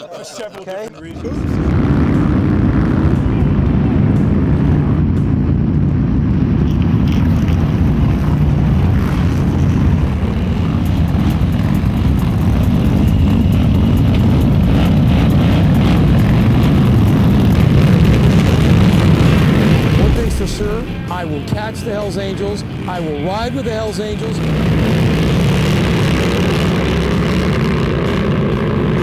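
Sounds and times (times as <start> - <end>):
motorcycles riding past: 1.2 - 29.0.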